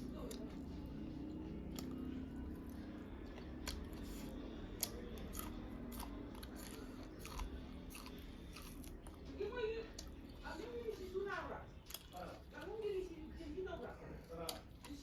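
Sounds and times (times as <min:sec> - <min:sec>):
person chewing food: 0:00.0 - 0:12.8, 0:14.1 - 0:15.0.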